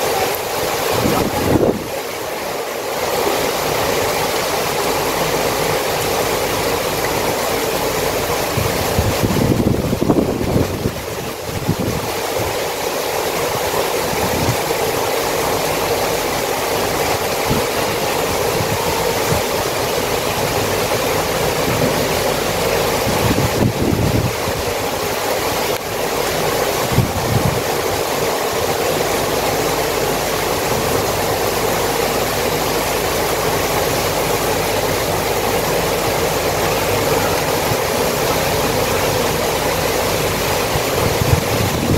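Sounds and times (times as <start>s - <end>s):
heavy rain on leaves and street: 0.0s - 41.9s.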